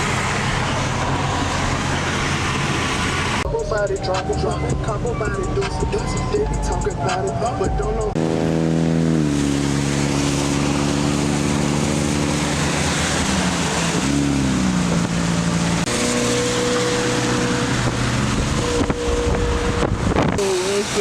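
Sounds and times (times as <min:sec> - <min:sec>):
car engine running: 0:00.0 - 0:21.0
wind and road noise: 0:00.0 - 0:21.0.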